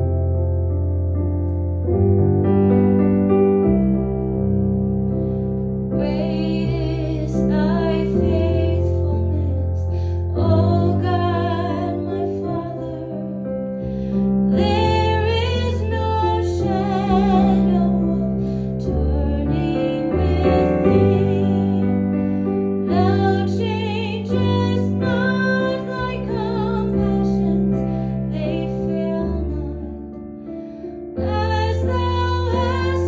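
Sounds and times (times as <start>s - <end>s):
sustained piano chords: 0.0s - 33.0s.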